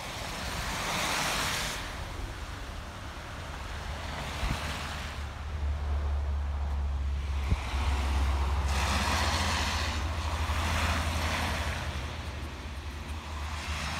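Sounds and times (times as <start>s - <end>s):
wind buffeting microphone: 0.2s - 5.4s, 6.6s - 13.9s.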